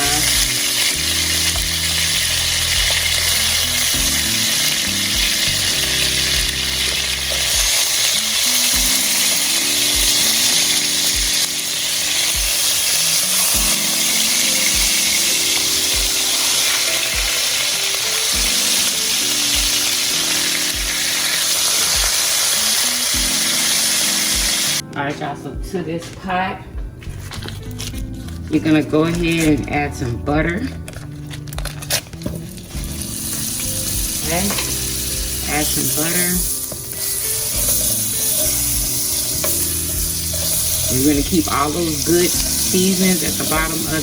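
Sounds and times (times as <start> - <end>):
oil sizzling in hot pan: 0.0 - 24.8, 31.4 - 44.0
background music with low beat: 0.0 - 44.0.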